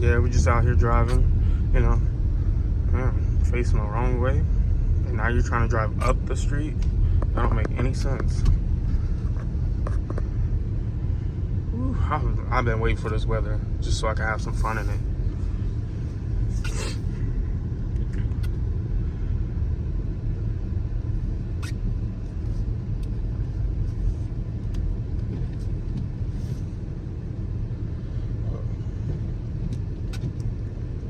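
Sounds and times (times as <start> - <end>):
car driving rumble from inside: 0.0 - 31.0.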